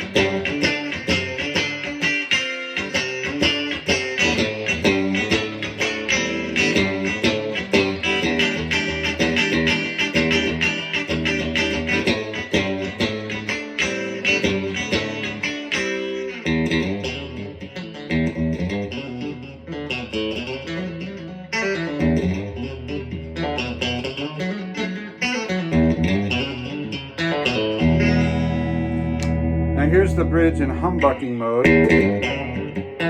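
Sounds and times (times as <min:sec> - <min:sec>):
electric guitar notes and chords: 0:00.0 - 0:33.0.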